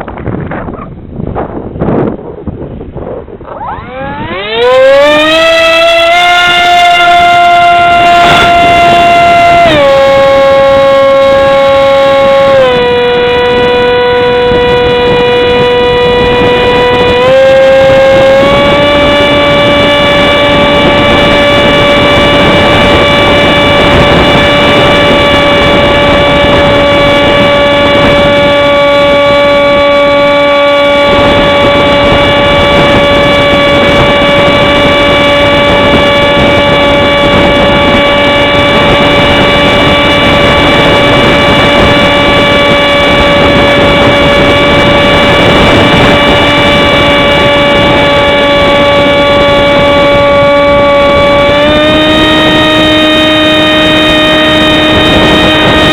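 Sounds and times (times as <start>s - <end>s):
wind noise on microphone: 0.0s - 55.9s
model jet motor high pitch: 3.0s - 55.9s.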